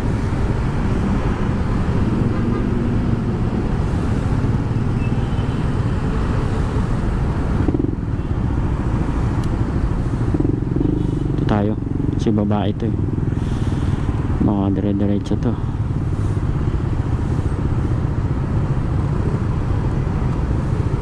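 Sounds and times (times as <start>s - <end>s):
low wind rumble on microphone: 0.0s - 21.0s.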